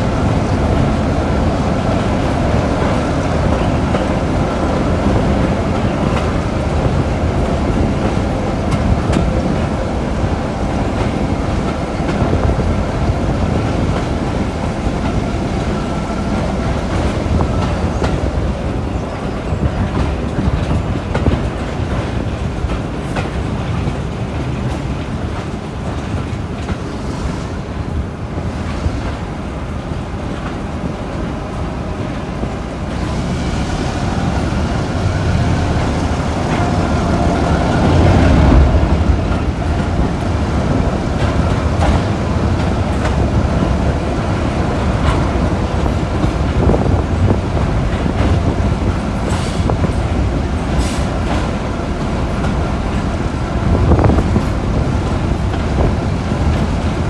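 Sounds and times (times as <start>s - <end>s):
diesel locomotive running: 0.0s - 57.0s.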